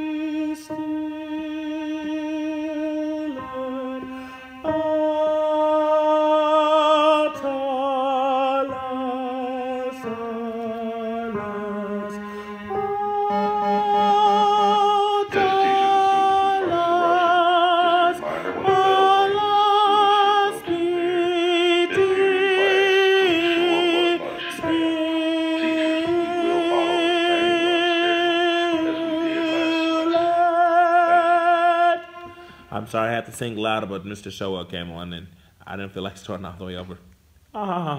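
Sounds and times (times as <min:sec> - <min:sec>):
woman singing alto: 0:00.0 - 0:32.6.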